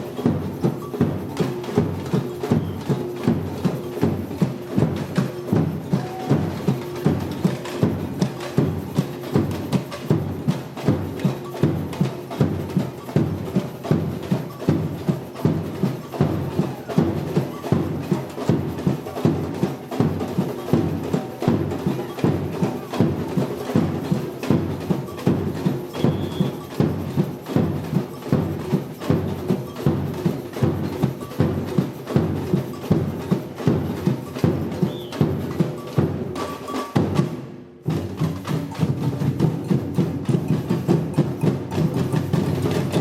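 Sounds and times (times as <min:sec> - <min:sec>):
samba percussion group: 0:00.0 - 0:43.0.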